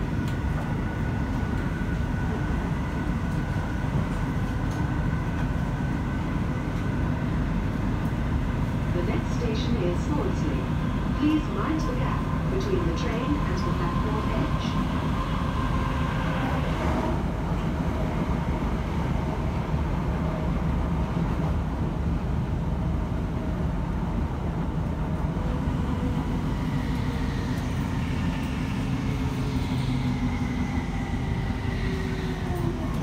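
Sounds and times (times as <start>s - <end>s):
train rumbling inside carriage: 0.0s - 33.0s.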